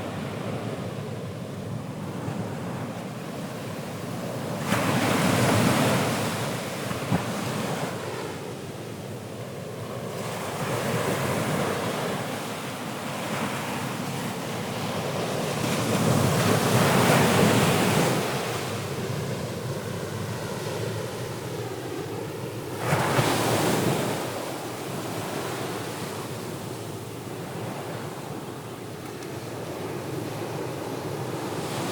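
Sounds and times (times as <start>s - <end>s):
ocean waves washing ashore: 0.0s - 31.9s.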